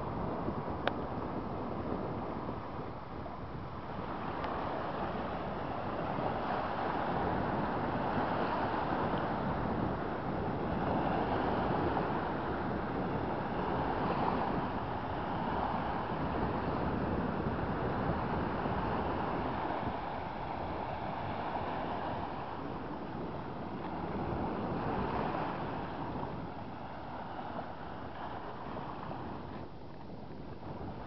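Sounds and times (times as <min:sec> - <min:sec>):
small waves splashing on sand: 0:00.0 - 0:31.0
wind noise on microphone: 0:00.0 - 0:31.0.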